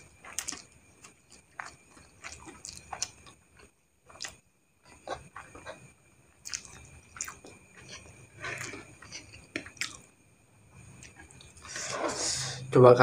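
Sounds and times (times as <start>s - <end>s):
wet chewing of noodles: 0.0s - 10.1s, 10.8s - 11.9s.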